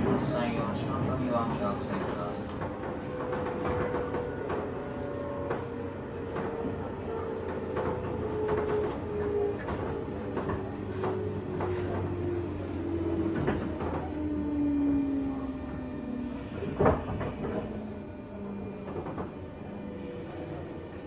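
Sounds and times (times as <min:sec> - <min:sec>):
train rolling noise: 0:00.0 - 0:21.0.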